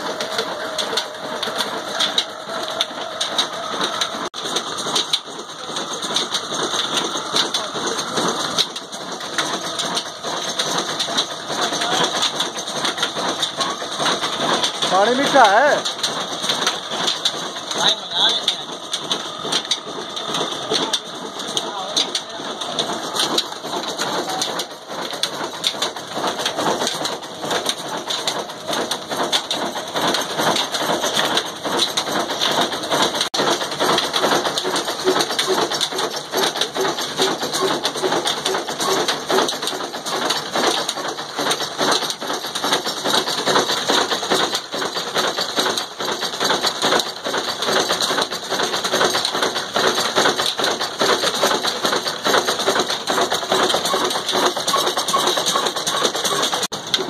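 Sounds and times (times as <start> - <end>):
diesel engine clattering: 0.0 - 57.0.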